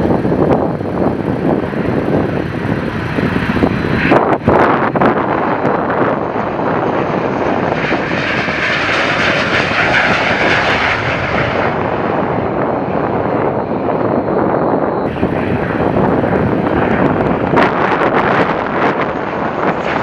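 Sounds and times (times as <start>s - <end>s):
high jet whine: 0.0s - 20.0s
jet engine roar: 0.0s - 20.0s.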